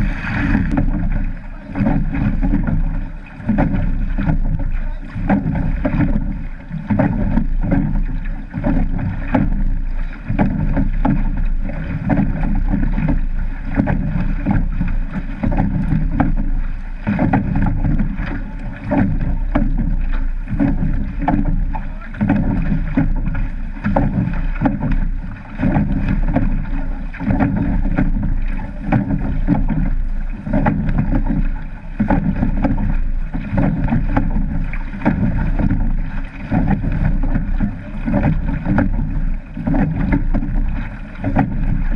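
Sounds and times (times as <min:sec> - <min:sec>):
water and wind rushing against hull: 0:00.0 - 0:41.9.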